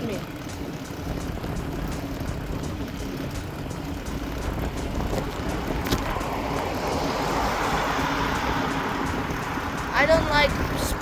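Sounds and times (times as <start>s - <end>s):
bicycle road noise: 0.0s - 11.0s
wind buffeting microphone: 0.3s - 11.0s.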